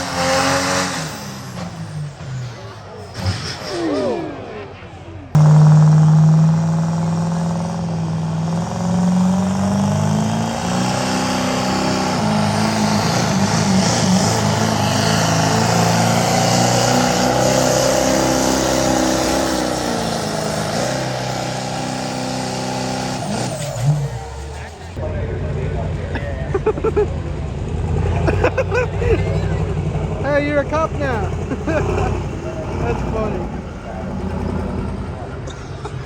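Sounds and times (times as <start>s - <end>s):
diesel truck engine droning: 0.0s - 36.0s.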